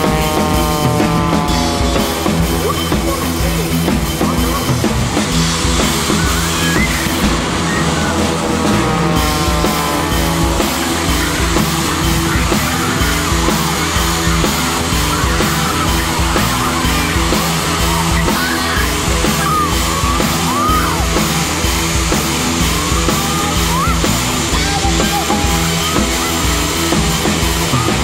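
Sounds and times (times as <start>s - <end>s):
rock music with steady beat: 0.0s - 28.0s
shouted vocal: 0.0s - 28.0s.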